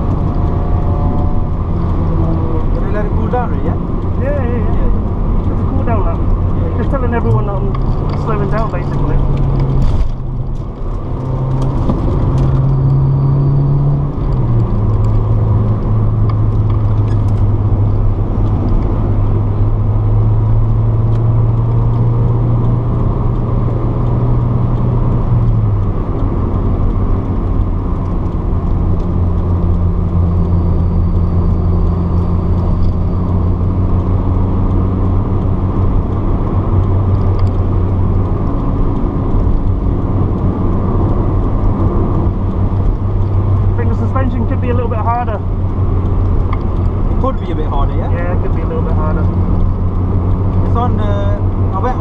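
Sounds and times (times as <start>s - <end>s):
car engine drone from cabin: 0.0s - 52.0s
tyre and road noise: 0.0s - 52.0s.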